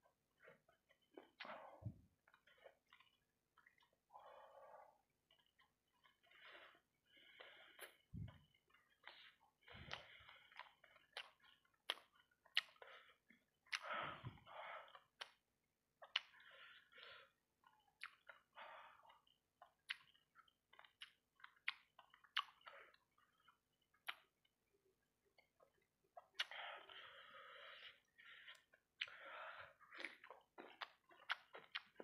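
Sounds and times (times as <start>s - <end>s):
close chewing with mouth smacks: 0.0s - 4.2s, 5.0s - 17.0s, 17.6s - 32.0s.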